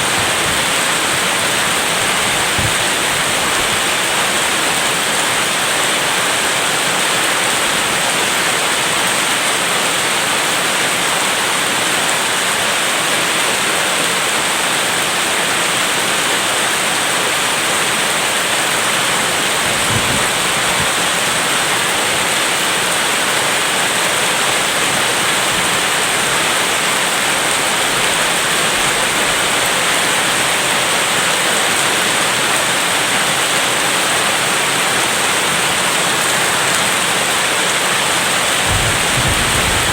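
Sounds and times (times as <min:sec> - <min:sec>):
steady loud rain: 0:00.0 - 0:39.9.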